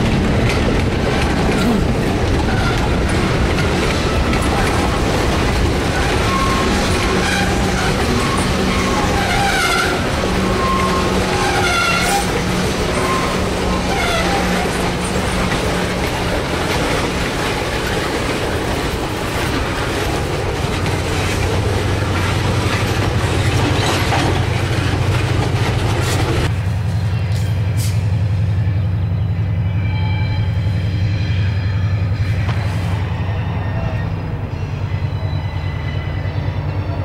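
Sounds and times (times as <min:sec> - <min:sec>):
train wheels clattering on rails: 0:00.0 - 0:28.9, 0:30.7 - 0:37.0.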